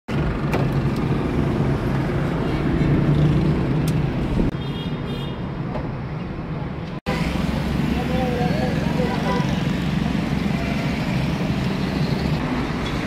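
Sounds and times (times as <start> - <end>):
street traffic rumble: 0.1 - 13.0.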